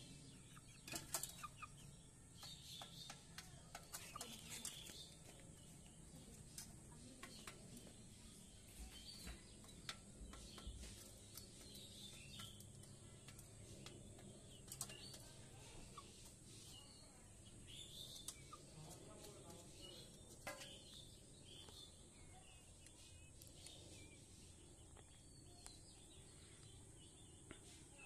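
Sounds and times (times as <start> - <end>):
chickens pecking grain: 0.0 - 27.9.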